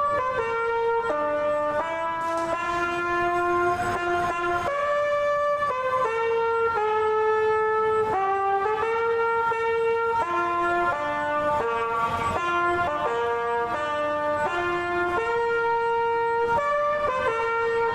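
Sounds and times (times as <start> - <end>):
musical air horn playing a tune: 0.0 - 17.9.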